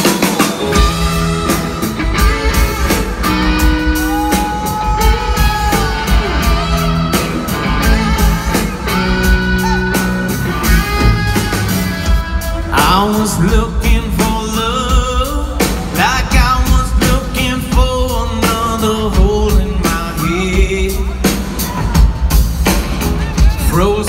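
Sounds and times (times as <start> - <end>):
bass: 0.0 - 24.0
drum kit beat: 0.0 - 24.0
electric guitars: 0.0 - 24.0.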